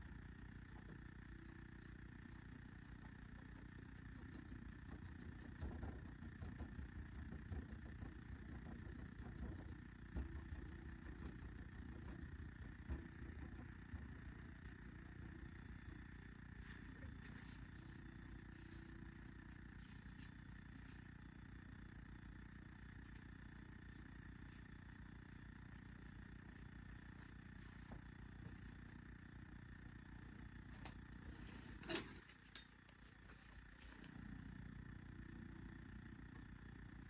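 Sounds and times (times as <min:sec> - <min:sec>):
faint low room hum: 0:00.0 - 0:37.0.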